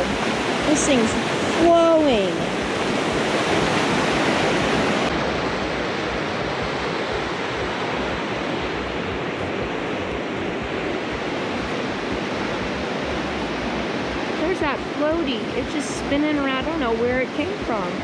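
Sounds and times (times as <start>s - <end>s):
loud rush of river water: 0.0s - 18.0s.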